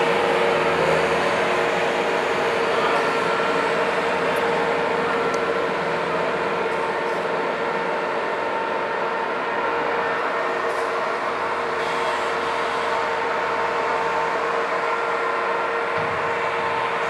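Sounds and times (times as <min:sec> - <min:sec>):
loader engine running: 0:00.0 - 0:17.0.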